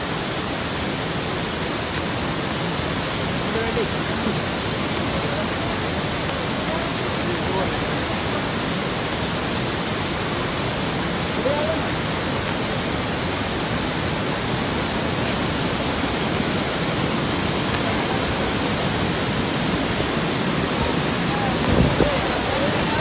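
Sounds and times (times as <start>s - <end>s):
waterfall torrent rushing: 0.0s - 23.0s.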